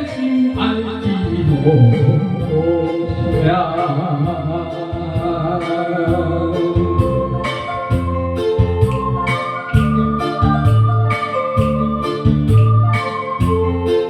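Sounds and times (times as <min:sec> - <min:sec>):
backing music with steady beat: 0:00.0 - 0:14.0
person singing ballad: 0:00.0 - 0:14.0.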